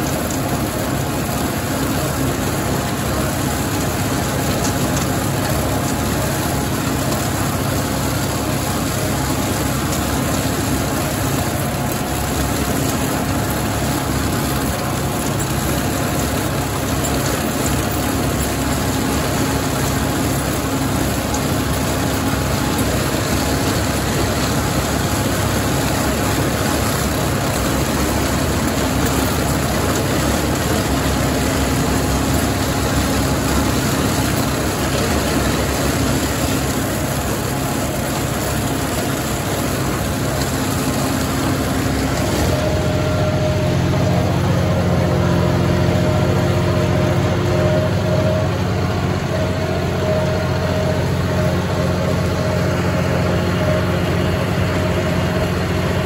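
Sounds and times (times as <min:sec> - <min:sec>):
rotary cutter cutting weeds: 0:00.0 - 0:56.0
tractor diesel engine running: 0:00.0 - 0:56.0.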